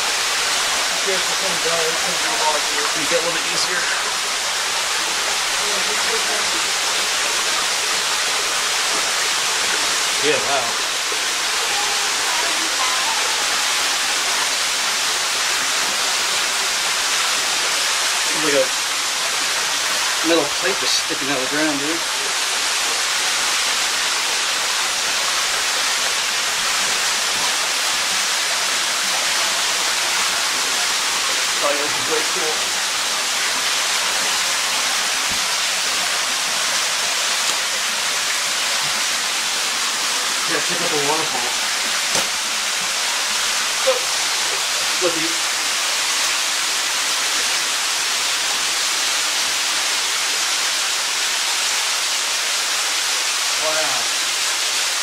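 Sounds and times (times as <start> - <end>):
waterfall rushing and splashing: 0.0 - 55.0.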